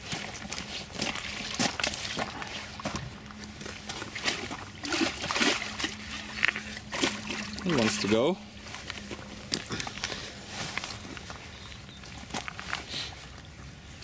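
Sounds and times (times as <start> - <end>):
water sloshing and splashing: 0.0 - 14.0.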